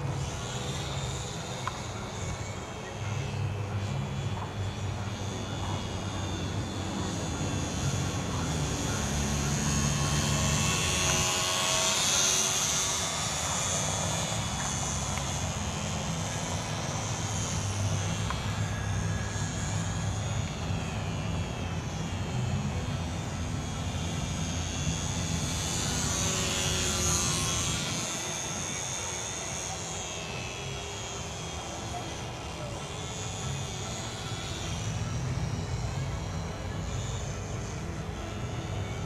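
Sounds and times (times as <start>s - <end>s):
model airplane motor whining: 0.0s - 39.0s.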